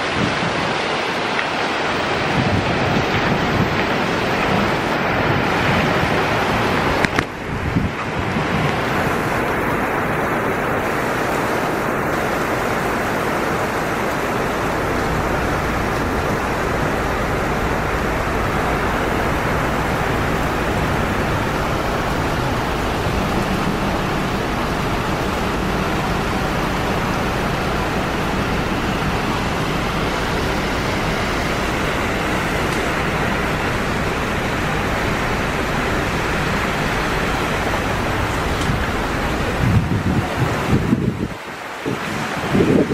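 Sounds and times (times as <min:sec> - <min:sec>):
heavy rain on pavement: 0:00.0 - 0:42.9.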